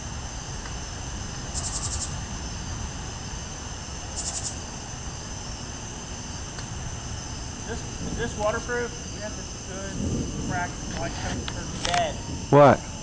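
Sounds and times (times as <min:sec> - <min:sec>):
crickets and night insects: 0:00.0 - 0:13.0
rapid pulsed chirping: 0:00.0 - 0:13.0.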